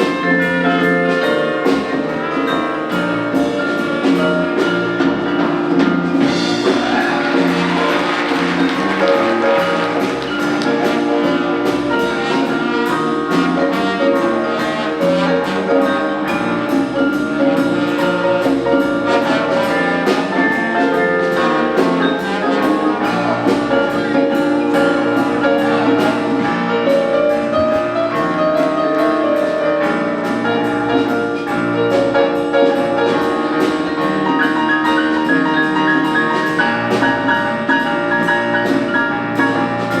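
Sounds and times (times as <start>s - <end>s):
big band jazz: 0.0s - 40.0s.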